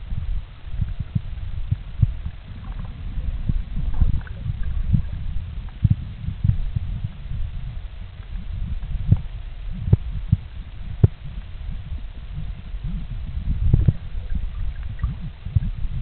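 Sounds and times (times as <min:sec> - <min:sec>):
underwater thumps and rumbling: 0:00.0 - 0:16.0
faint crackles: 0:00.8 - 0:16.0.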